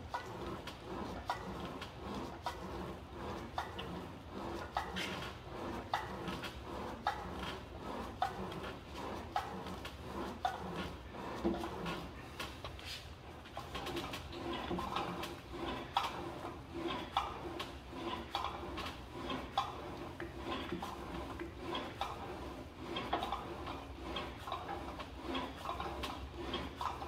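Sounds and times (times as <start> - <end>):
exercise machine clicking and knocking: 0.0 - 12.8, 13.4 - 27.0.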